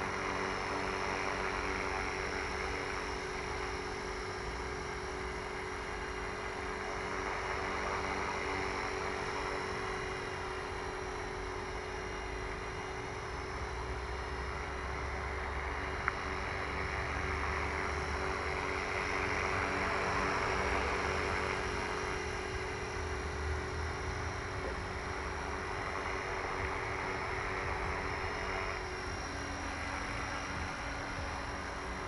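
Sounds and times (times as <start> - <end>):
model rotors whirring: 0.0 - 32.0.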